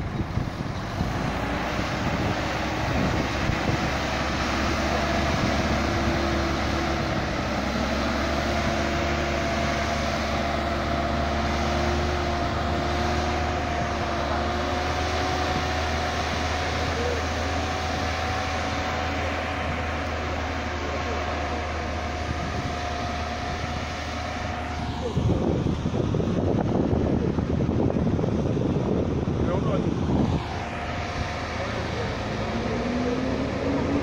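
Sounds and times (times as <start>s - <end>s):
dump truck diesel engine: 0.0s - 34.0s
thin rising whine: 0.0s - 34.0s.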